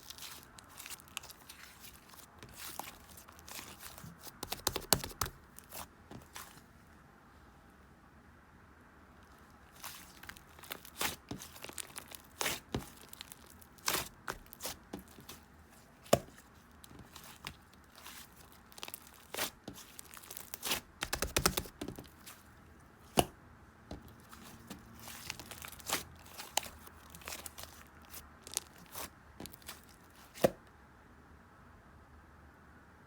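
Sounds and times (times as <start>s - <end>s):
crinkling and rustling: 0.0s - 6.7s, 9.2s - 23.3s, 23.9s - 30.6s.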